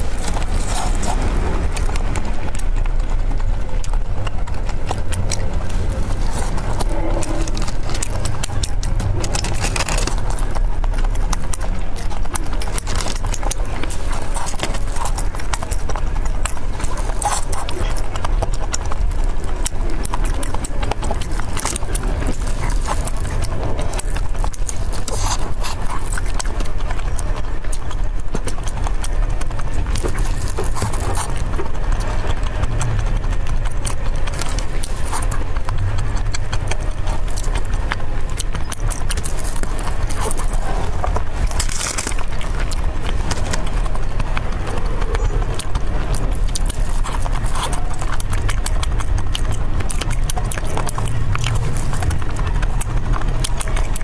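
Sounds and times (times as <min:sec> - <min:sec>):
low rumble: 0:00.0 - 0:54.0
person chewing food: 0:00.0 - 0:54.0
wet mouth clicks and smacks: 0:00.0 - 0:54.0.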